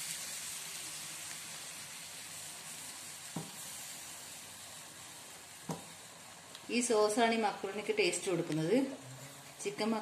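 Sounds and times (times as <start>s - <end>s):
sauce sizzling and bubbling in a pan: 0.0s - 10.0s.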